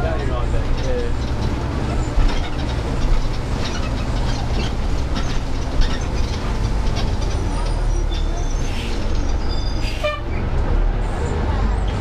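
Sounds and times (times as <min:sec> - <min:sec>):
bus body rattling: 0:00.0 - 0:12.0
bus engine and road drone: 0:00.0 - 0:12.0.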